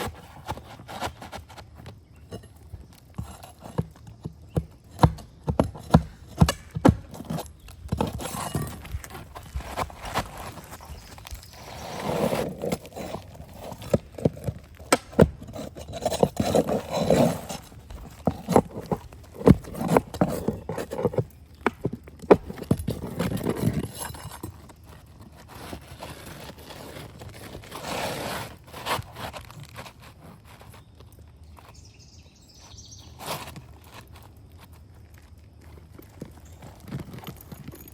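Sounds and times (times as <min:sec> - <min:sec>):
roof shingles scraping and rustling: 0:00.0 - 0:32.0, 0:32.6 - 0:37.9.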